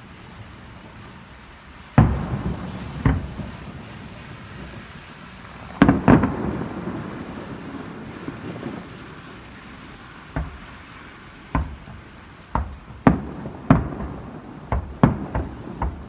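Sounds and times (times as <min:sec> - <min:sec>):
fireworks booming: 0:01.8 - 0:16.0.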